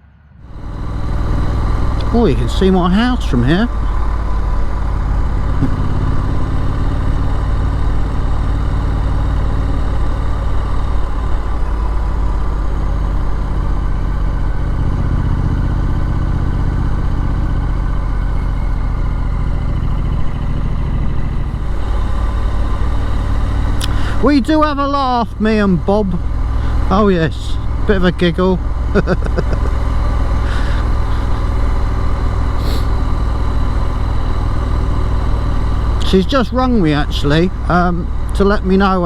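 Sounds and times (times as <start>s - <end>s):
motorcycle engine idling: 0.4s - 39.0s.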